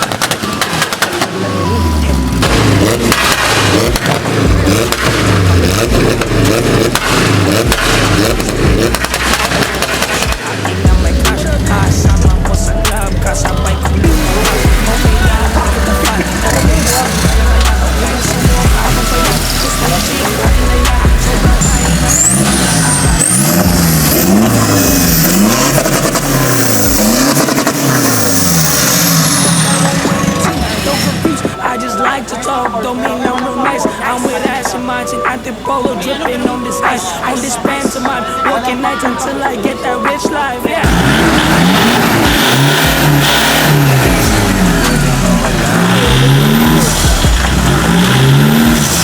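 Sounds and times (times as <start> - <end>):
high whine: 0.0 - 35.6, 36.5 - 49.0
car engine revving: 0.0 - 49.0.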